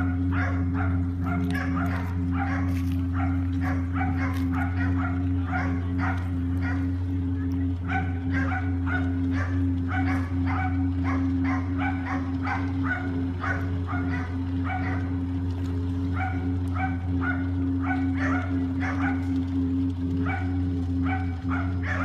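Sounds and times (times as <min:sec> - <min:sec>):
animal barking: 0:00.0 - 0:22.0
steady low hum: 0:00.0 - 0:22.0.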